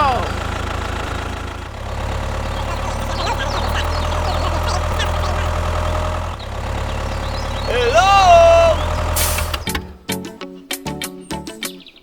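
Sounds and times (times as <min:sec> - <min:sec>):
heavy vehicle engine idling: 0:00.0 - 0:10.1.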